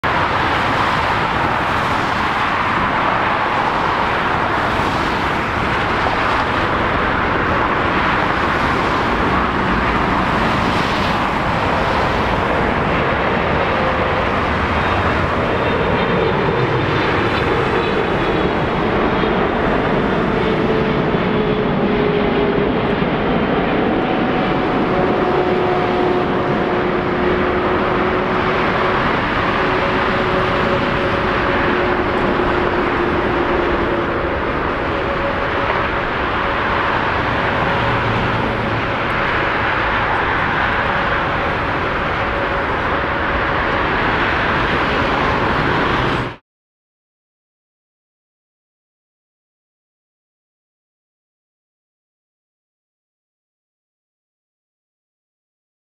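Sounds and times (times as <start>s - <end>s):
falling multi-tone whine: 0.0s - 46.4s
jet engine rush: 0.0s - 46.4s.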